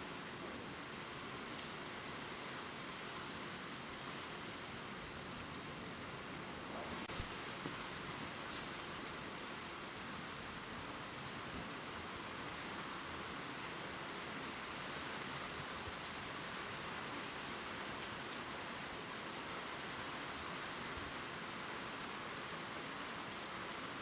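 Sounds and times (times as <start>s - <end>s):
rain falling on leaves: 0.0s - 24.0s.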